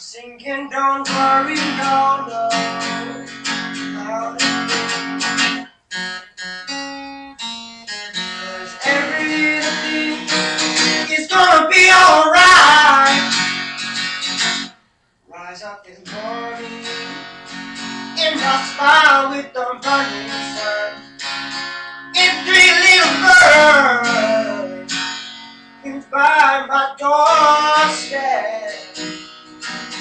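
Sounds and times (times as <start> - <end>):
acoustic guitar strumming and picking: 0.0 - 14.9, 15.6 - 30.0.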